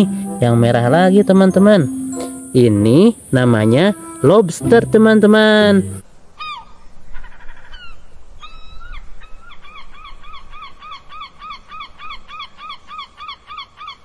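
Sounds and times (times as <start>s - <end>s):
bird calls rising and falling: 1.5s - 14.0s.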